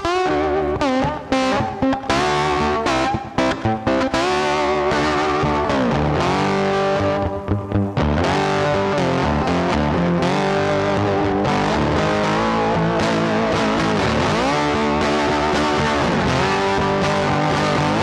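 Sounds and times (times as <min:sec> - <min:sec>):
distorted electric guitar music: 0:00.0 - 0:18.0.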